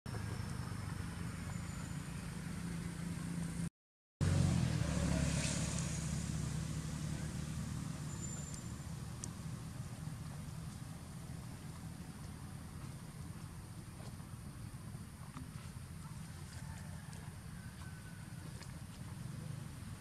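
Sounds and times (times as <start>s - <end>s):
vehicle engine rumbling: 0.1s - 20.0s.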